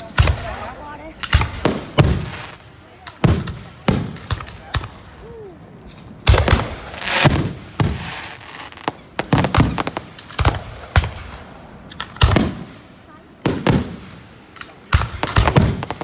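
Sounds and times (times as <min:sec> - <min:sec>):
fireworks bangs overhead: 0:00.0 - 0:16.0.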